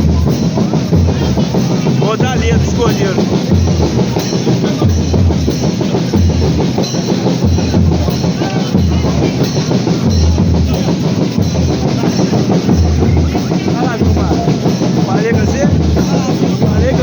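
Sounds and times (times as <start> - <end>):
deep bass drum beat: 0.0 - 17.0
loud drum music: 0.0 - 17.0.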